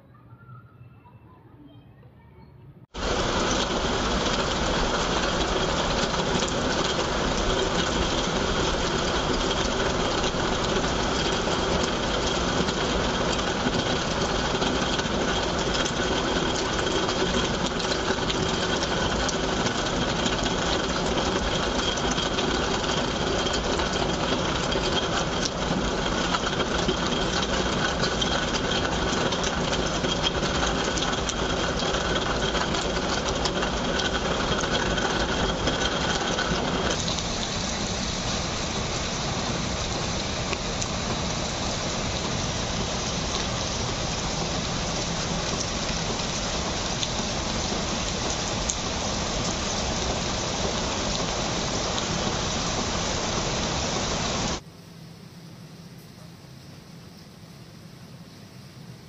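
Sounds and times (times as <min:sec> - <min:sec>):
heavy rain on concrete rooftop: 0:03.0 - 0:54.6.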